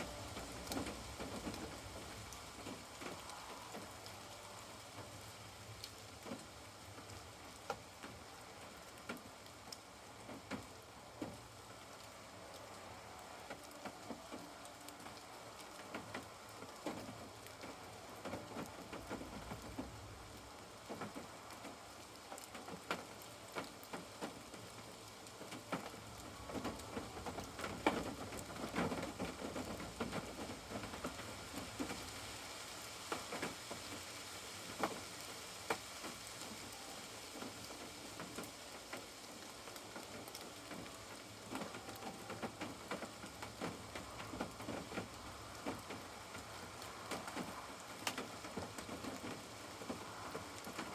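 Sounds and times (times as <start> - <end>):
rain drops tapping on a surface: 0.0 - 50.9.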